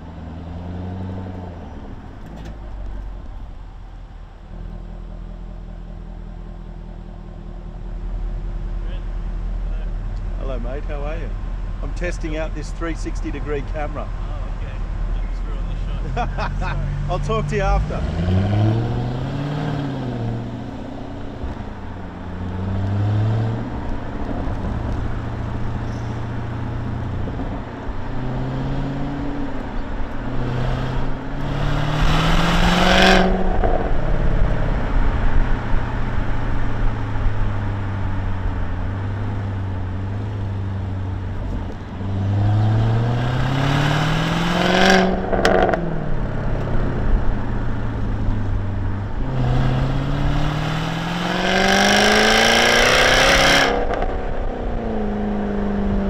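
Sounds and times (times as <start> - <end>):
sports car engine accelerating: 0.0 - 56.0.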